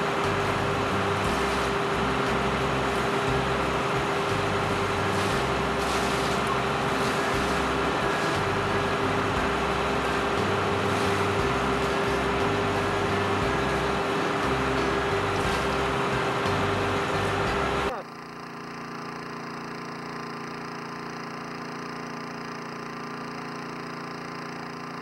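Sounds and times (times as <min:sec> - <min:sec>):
motor running steadily: 0:00.0 - 0:25.0.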